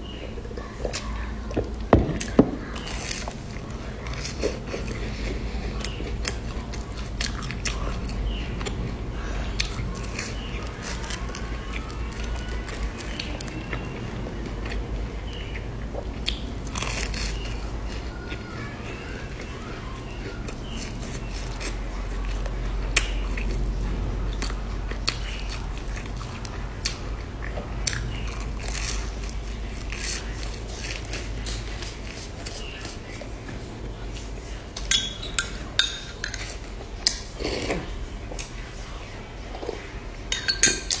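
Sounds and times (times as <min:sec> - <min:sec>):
chewing fried bread: 0:00.0 - 0:40.3
steady low hum: 0:00.0 - 0:41.0.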